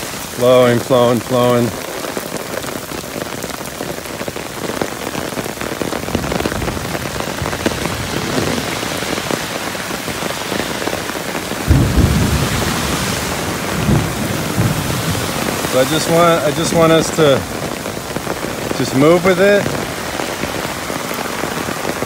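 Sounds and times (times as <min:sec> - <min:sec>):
rain on wet pavement: 0:00.0 - 0:22.0
rain pattering on an umbrella: 0:00.0 - 0:22.0.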